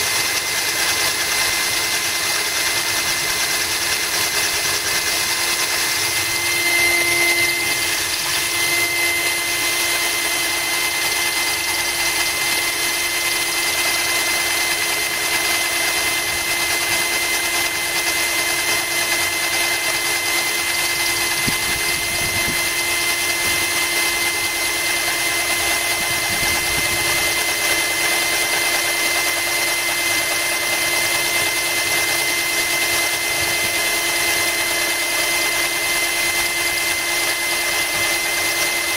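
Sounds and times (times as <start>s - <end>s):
drill bit grinding into glass: 0.0s - 38.9s.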